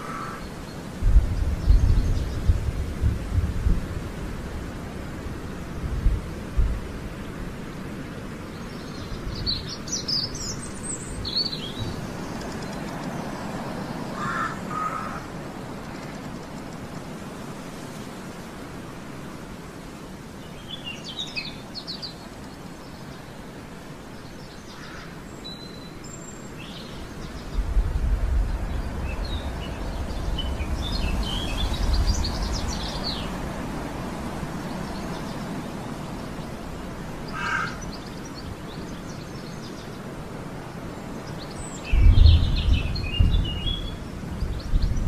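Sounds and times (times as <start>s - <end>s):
small birds twittering: 0.0s - 2.9s, 8.3s - 17.4s, 20.2s - 45.0s.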